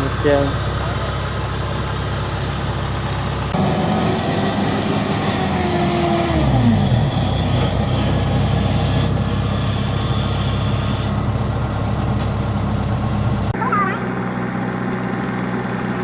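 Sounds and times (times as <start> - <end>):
diesel engine running: 0.0 - 16.0
falling whine: 0.6 - 16.0.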